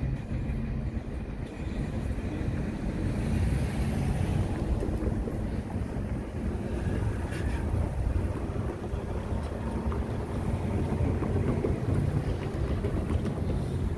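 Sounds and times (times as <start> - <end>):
vehicles driving over crossing: 0.0 - 13.9
wind buffeting microphone: 0.0 - 13.9.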